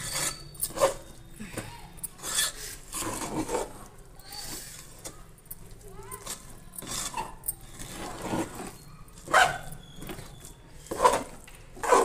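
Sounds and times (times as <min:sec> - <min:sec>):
metal spoon scraping a pot: 0:00.0 - 0:01.2, 0:02.0 - 0:04.9, 0:06.2 - 0:12.0.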